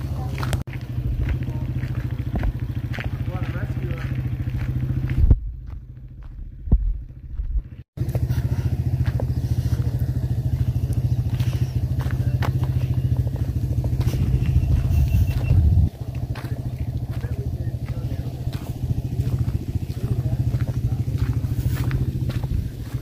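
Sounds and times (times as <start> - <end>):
dirt bike engines idling: 0.0 - 23.0.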